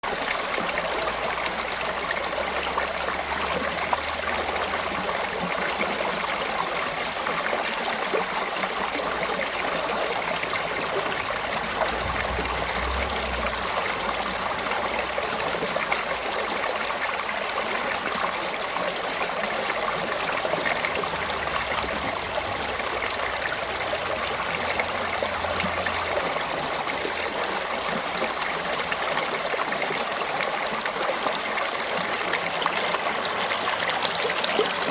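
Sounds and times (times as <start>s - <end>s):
stream water rushing over rocks: 0.0s - 34.9s.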